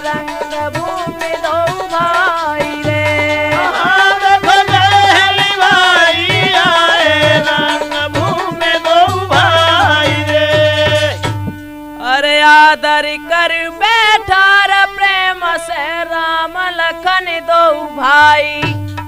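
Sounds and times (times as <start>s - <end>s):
dholak drumming: 0.0s - 15.0s, 17.8s - 19.0s
folk melody over drone: 0.0s - 18.6s.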